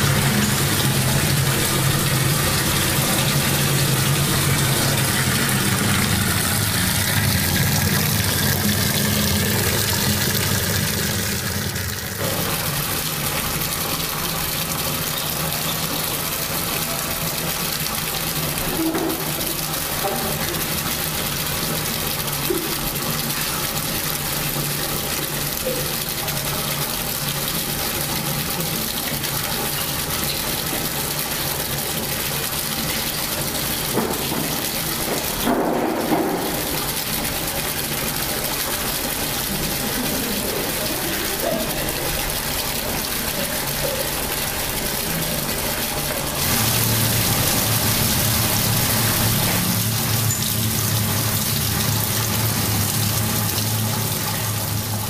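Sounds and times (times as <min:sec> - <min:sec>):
tap water running into sink: 0:00.0 - 0:55.0.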